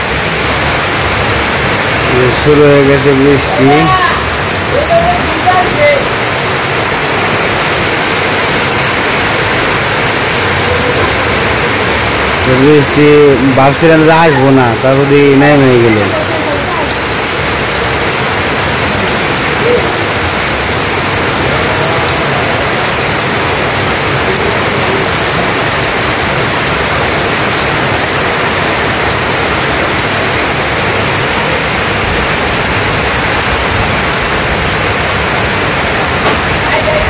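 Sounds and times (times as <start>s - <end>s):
rain on tin roofs: 0.0s - 37.0s.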